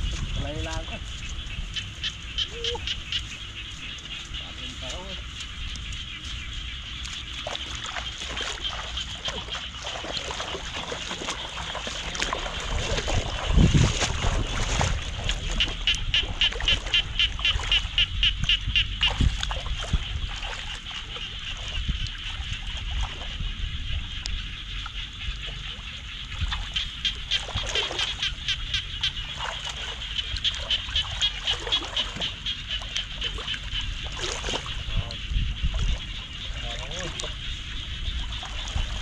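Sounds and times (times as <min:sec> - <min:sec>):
feet splashing through water: 0:00.0 - 0:39.0
night chorus of calling animals: 0:00.0 - 0:39.0.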